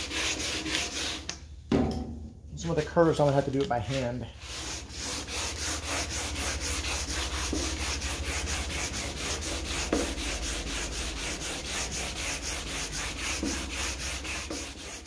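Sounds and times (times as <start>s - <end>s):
sandpaper scrubbing sheet metal: 0.0s - 1.3s, 3.2s - 15.0s.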